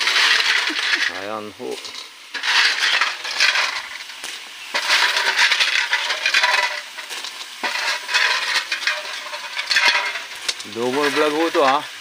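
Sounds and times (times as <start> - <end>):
clam shells clattering in wok: 0.0 - 12.0.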